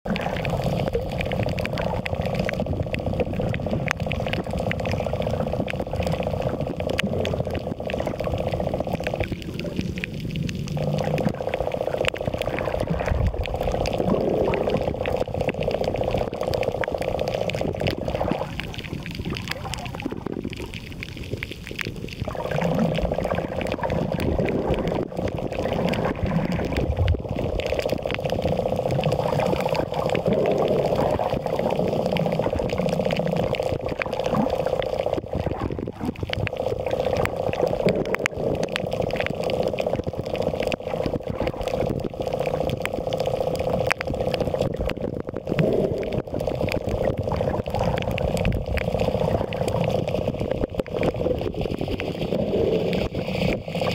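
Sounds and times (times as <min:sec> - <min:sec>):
mid-pitched hum: 0:00.1 - 0:53.1.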